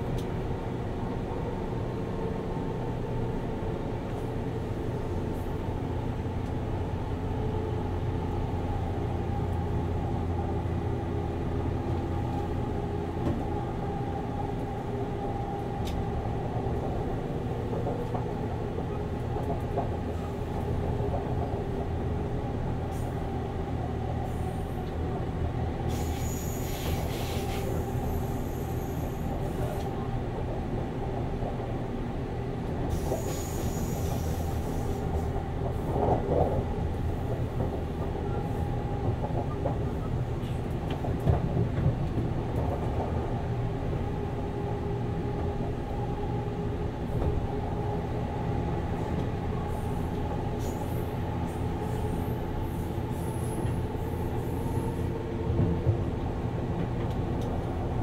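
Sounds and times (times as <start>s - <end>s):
train wheels and motor rumble: 0.0s - 58.0s.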